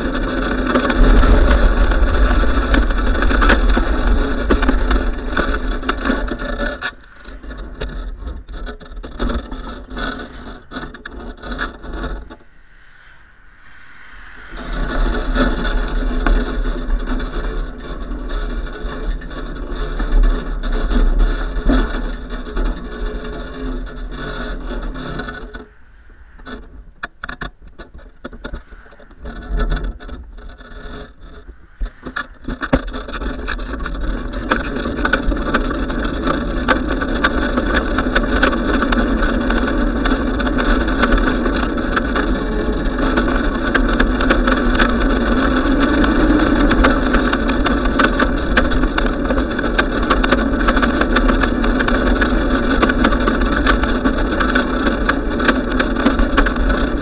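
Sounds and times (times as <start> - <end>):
bike rolling over pavement: 0.0 - 57.0
wind rushing over microphone: 0.0 - 57.0.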